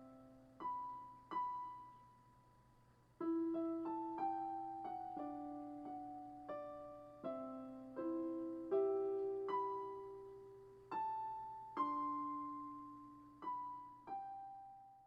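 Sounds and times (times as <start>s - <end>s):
gentle solo piano: 0.0s - 2.2s, 3.2s - 15.0s.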